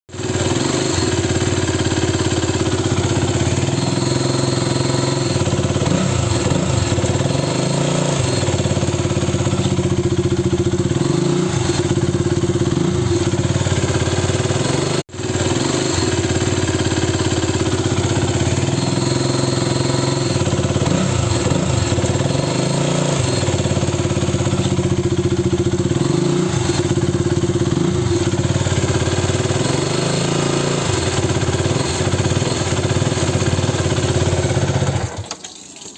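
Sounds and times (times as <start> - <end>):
motorcycle engine running: 0.1 - 35.2.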